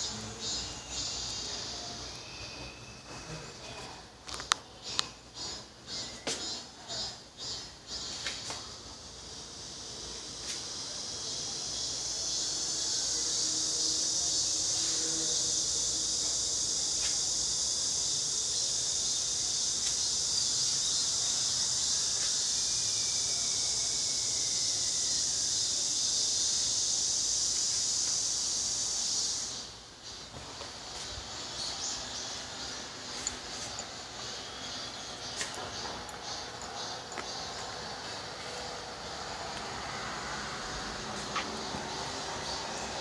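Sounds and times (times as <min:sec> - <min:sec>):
cicada buzzing: 0:00.0 - 0:43.0.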